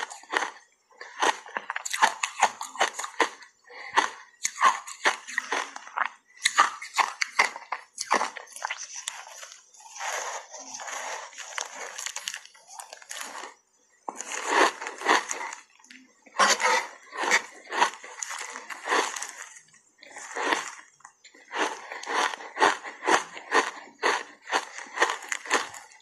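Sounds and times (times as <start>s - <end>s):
ice being chewed with crunches: 0.0s - 26.0s.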